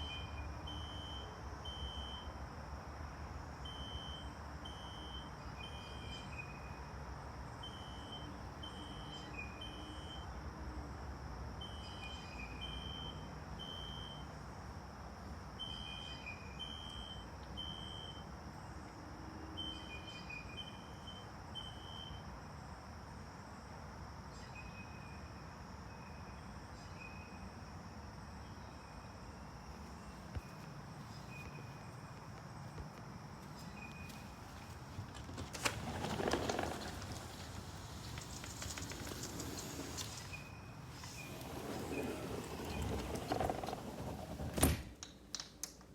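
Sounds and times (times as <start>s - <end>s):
faint outdoor background noise: 0.0s - 45.9s.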